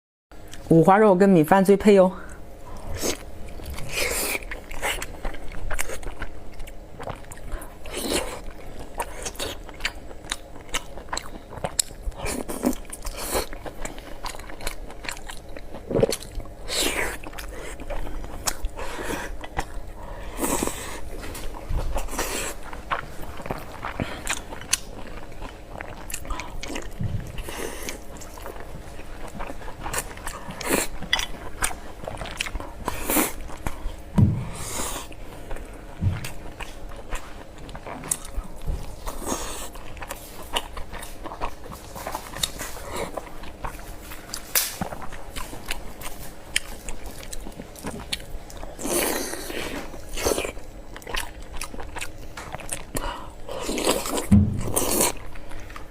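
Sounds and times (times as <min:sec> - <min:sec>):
person chewing: 0:02.2 - 0:55.9.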